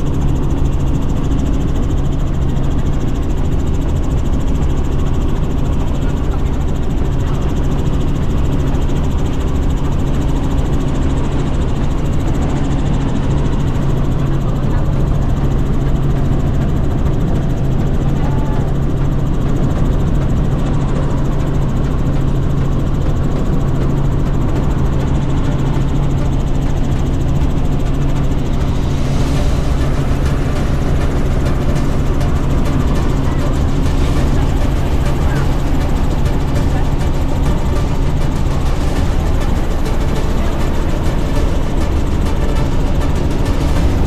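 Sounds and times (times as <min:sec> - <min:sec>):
helicopter engine and rotors: 0:00.0 - 0:44.0.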